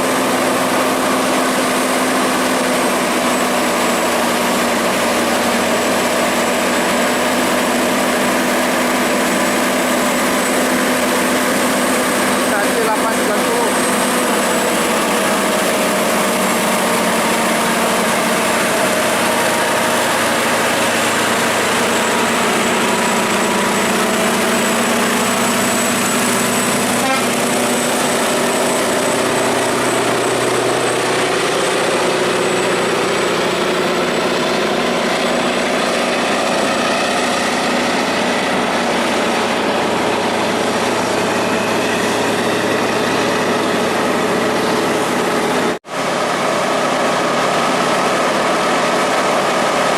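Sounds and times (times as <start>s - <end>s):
road noise: 0.0s - 49.9s
truck engine under load: 0.0s - 49.9s.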